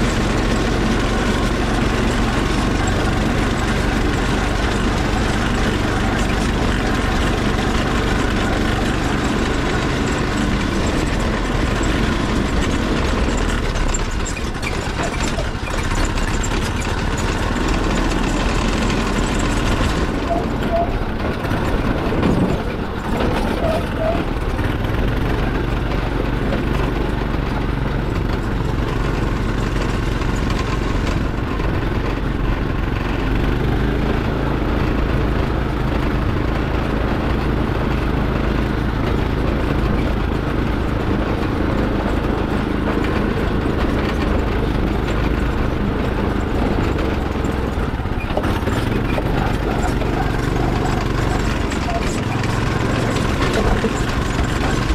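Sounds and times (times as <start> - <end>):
go-kart engine running: 0.0 - 54.9.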